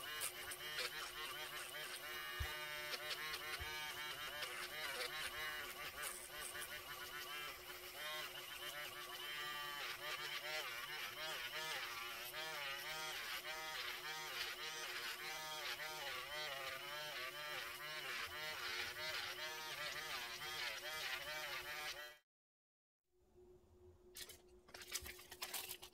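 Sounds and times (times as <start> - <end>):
nail drill grinding fingernail: 0.0 - 22.2.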